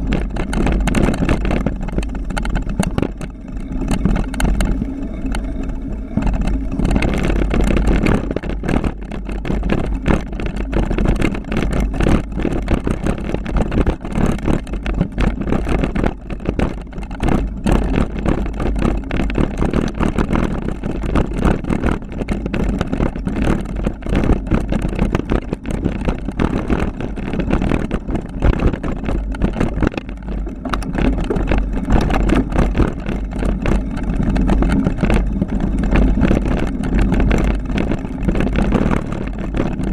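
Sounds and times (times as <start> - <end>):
bike rattling over bumps: 0.0 - 39.9
wind and tyres rumbling: 0.0 - 39.9.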